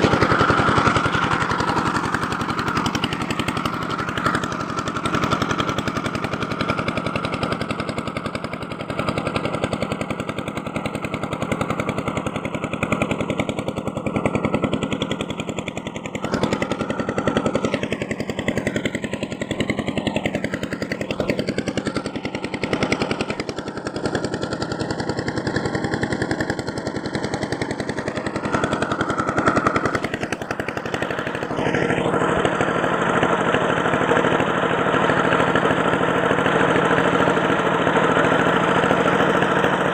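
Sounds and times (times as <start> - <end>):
small motor rattling: 0.0 - 39.9.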